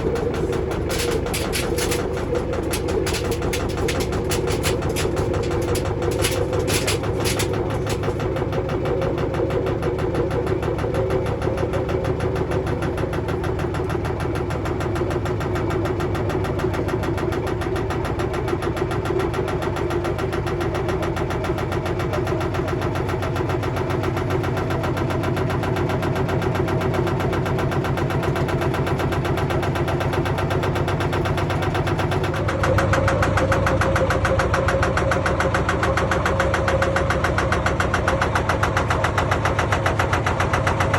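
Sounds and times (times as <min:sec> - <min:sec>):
washing machine running: 0:00.0 - 0:40.9.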